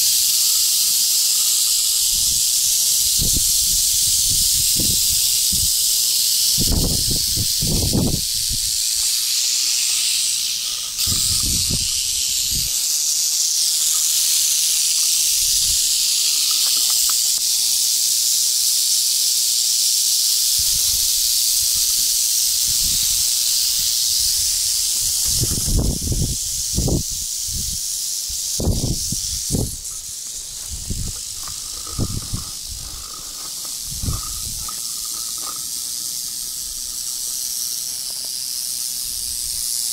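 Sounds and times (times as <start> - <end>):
rattlesnakes rattling: 0.0 - 39.9.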